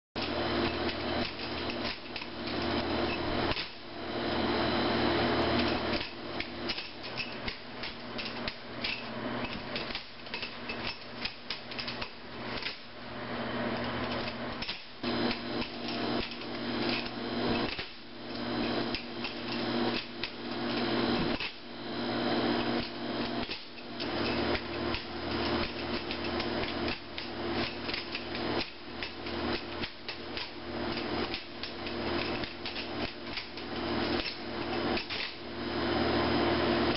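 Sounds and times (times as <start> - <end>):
steady hum: 0.2 - 36.9.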